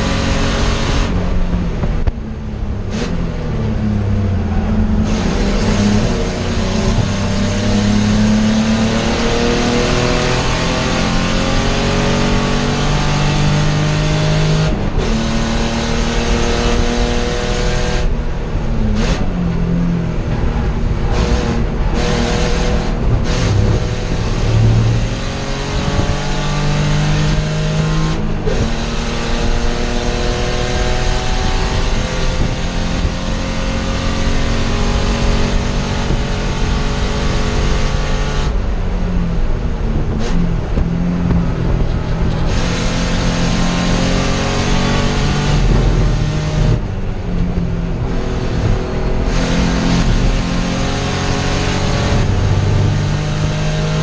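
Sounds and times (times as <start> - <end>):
race car engine accelerating: 0.0 - 54.0
wind and road noise: 0.0 - 54.0.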